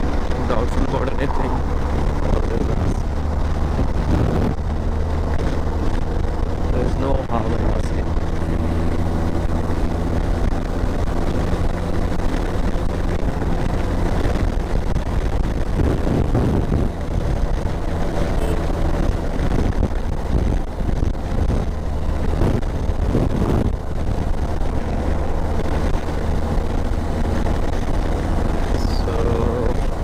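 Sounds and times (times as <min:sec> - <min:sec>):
motorcycle engine cruising: 0:00.0 - 0:30.0
wind rushing over microphone: 0:00.0 - 0:30.0.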